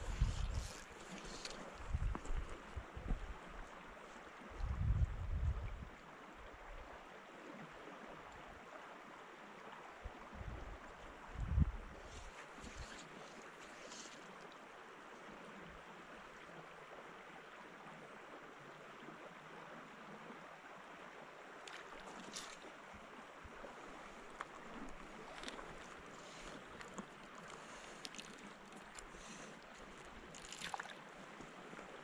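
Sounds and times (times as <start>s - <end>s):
river water flowing: 0.0s - 4.8s, 5.7s - 32.0s.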